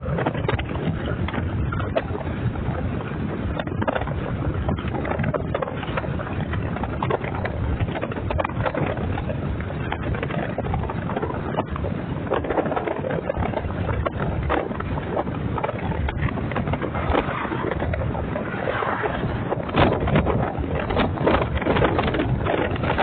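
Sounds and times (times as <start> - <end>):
vehicle road noise and wind: 0.0 - 23.0.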